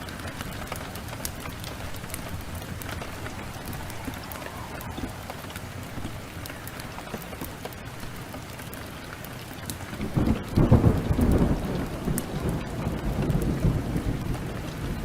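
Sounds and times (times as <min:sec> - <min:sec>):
thunder rolling: 0:00.0 - 0:07.4, 0:10.0 - 0:15.0
rain downpour: 0:00.0 - 0:15.0.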